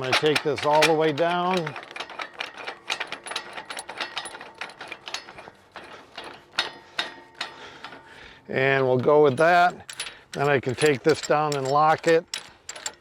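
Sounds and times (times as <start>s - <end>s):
metallic clicking and clinking: 0.0s - 8.1s, 8.8s - 13.0s.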